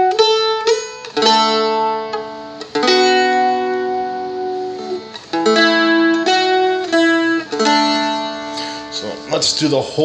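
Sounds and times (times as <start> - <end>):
dulcimer chords strummed: 0.0 - 10.0.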